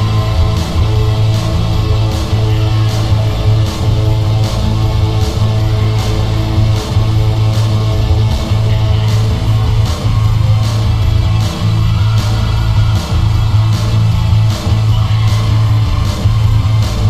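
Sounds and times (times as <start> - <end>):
distorted guitar music: 0.0 - 17.0
steady drum beat: 0.0 - 17.0.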